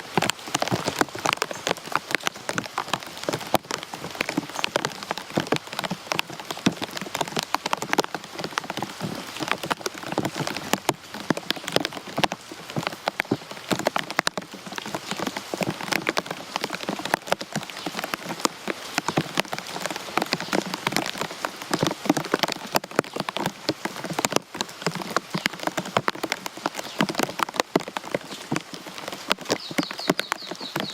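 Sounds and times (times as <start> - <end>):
raindrops tapping on a surface: 0.0 - 30.9
steady rain: 0.0 - 30.9.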